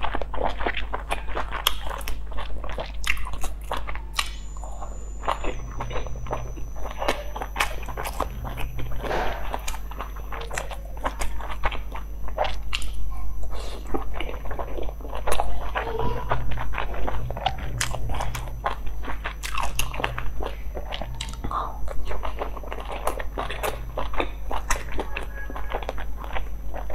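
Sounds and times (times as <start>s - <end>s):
chewing and biting dumplings: 0.0s - 26.9s.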